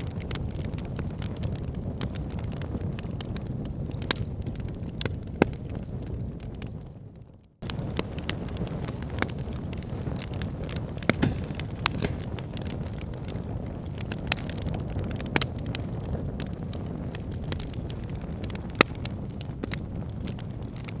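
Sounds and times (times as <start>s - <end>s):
wood crackling and popping: 0.0s - 6.9s, 7.5s - 21.0s
low rumble of flames: 0.0s - 21.0s.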